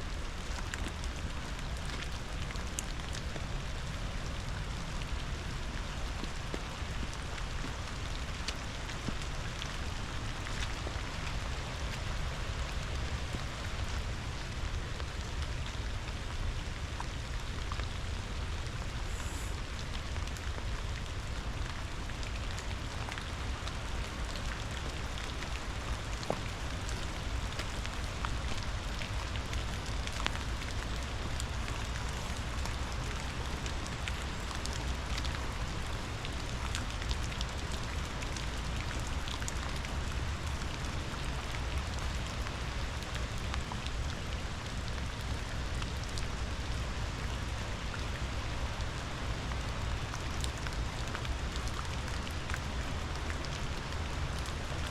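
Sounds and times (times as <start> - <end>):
low rumble of running water: 0.0 - 54.9
steady rain: 0.0 - 54.9.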